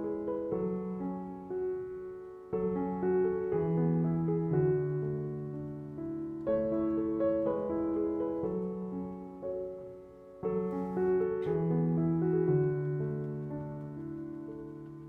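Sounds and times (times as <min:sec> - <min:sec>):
faint hiss: 0:00.0 - 0:15.0
soft piano chords: 0:00.0 - 0:15.0.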